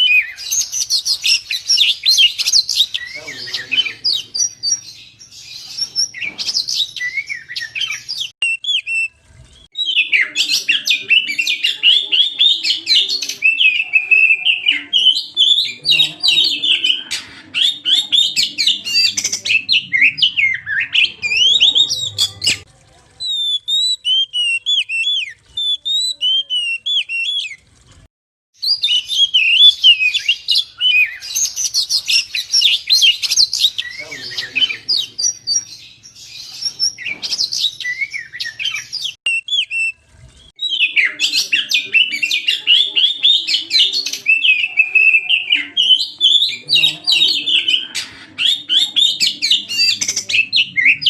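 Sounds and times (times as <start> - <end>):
bird singing whistles and chirps: 0.0 - 22.6, 23.2 - 27.6, 28.6 - 40.0, 40.6 - 51.0.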